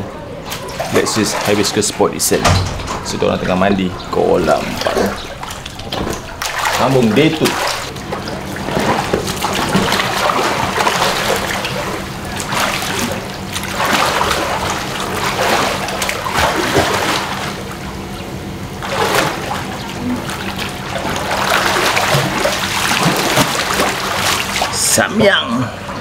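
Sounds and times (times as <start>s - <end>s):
pool water splashing: 0.0s - 26.0s.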